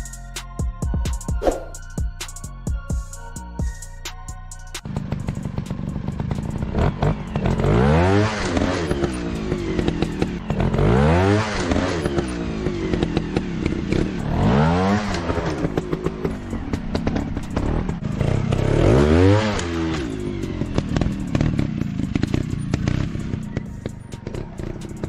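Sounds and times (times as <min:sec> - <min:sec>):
motorcycle engine revving: 0:04.6 - 0:25.0.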